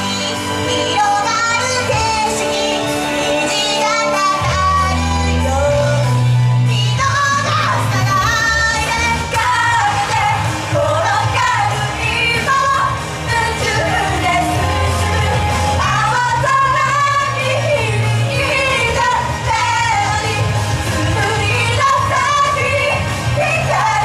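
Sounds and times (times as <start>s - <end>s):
high female voices singing: 0.0s - 24.0s
upbeat pop backing track: 0.0s - 24.0s.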